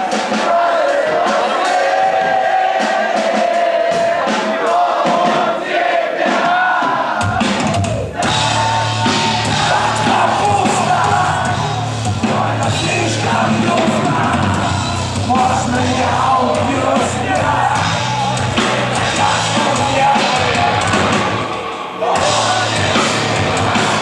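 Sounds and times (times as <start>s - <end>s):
rock band playing: 0.0s - 5.6s, 6.2s - 24.0s
crowd noise: 0.0s - 24.0s
sung and shouted rock vocals: 0.0s - 24.0s.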